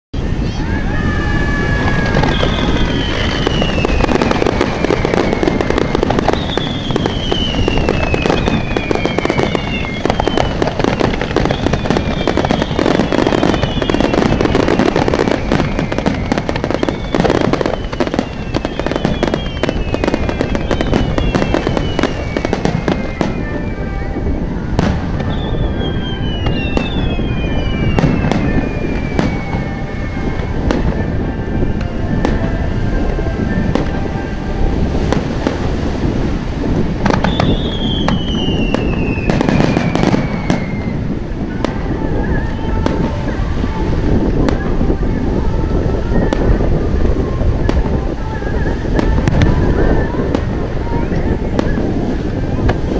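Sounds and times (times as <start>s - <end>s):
falling firework whistles: 0.2s - 52.9s
fireworks bangs and crackling: 0.2s - 52.9s.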